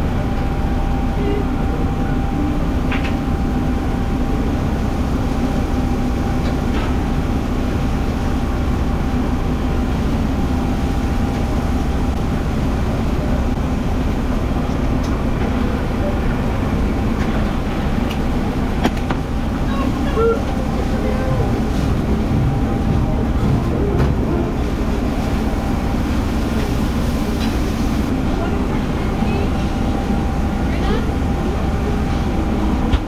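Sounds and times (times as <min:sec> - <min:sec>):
mechanical drone with low hum: 0:00.0 - 0:33.0.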